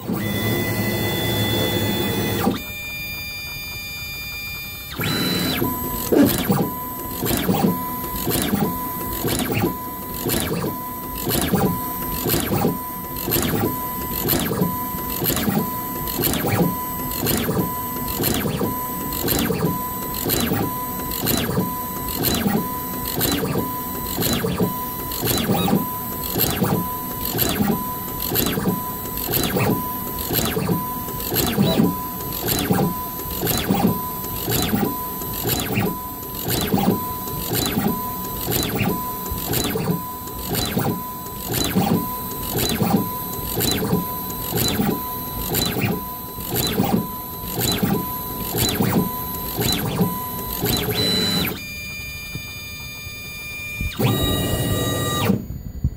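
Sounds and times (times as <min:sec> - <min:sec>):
machine mechanical cycle: 0:00.0 - 0:55.9.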